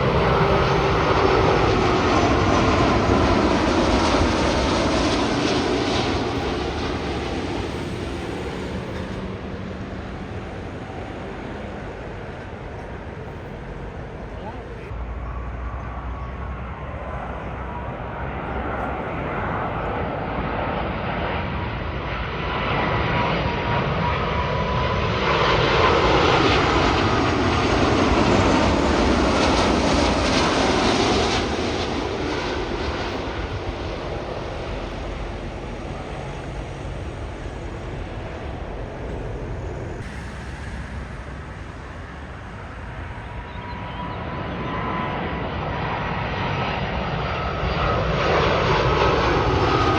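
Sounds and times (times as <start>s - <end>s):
engine whine sweeping down: 0.0s - 49.9s
jet airliner engine passing: 0.0s - 49.9s.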